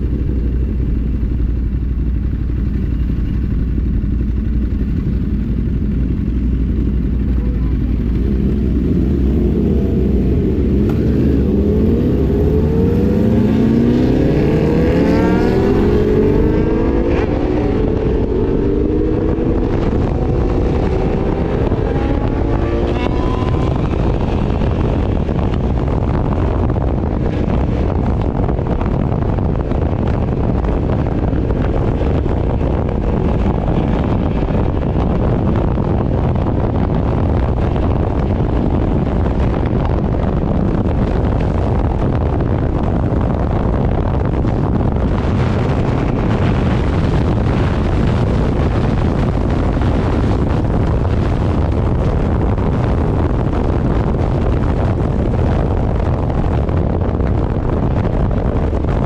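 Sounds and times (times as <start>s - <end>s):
motorcycle engine accelerating: 0.0s - 59.0s
wind noise on microphone: 0.0s - 59.0s.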